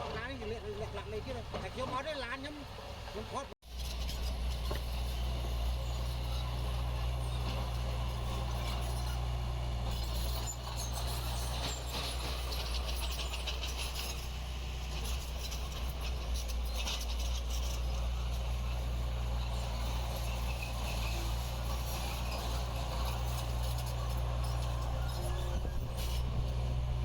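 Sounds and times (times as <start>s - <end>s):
heavy machinery diesel engine rumbling: 0.0s - 27.0s.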